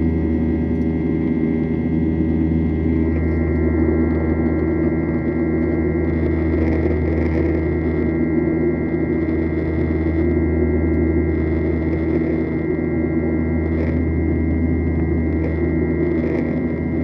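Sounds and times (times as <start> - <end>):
high whine: 0.0 - 17.0
jet engine cabin drone: 0.0 - 17.0.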